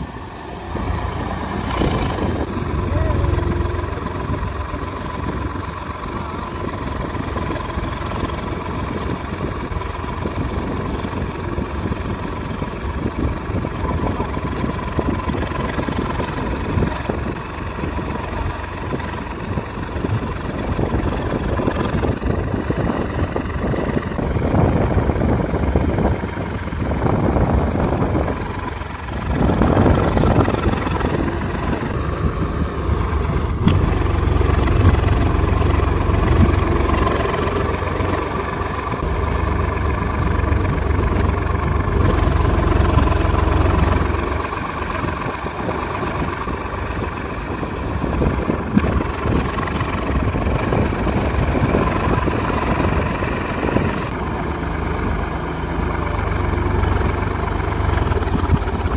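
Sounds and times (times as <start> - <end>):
tractor engines under heavy load: 0.0 - 58.9.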